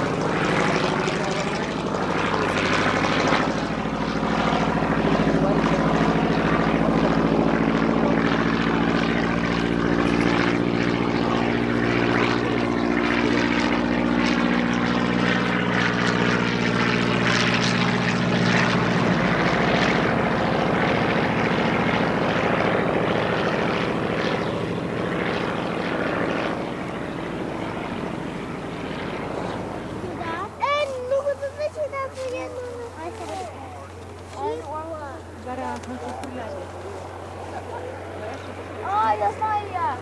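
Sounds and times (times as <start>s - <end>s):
propeller plane engine running: 0.0s - 40.0s.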